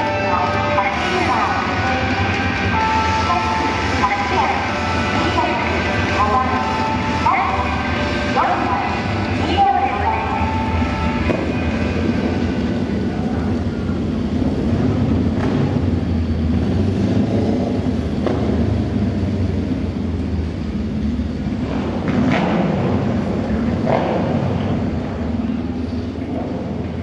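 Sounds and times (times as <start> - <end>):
motorcycle engines rumbling: 0.0 - 27.0.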